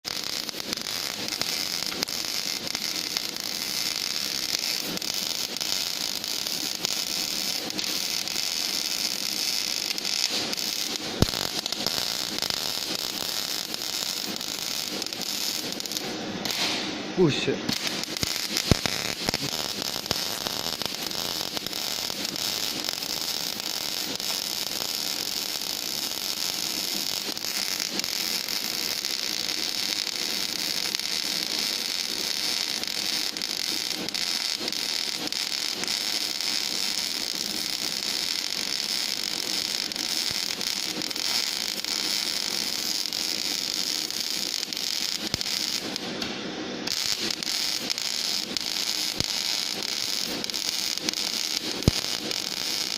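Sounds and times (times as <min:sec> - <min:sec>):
welding arc crackling hiss: 0:00.0 - 0:52.9.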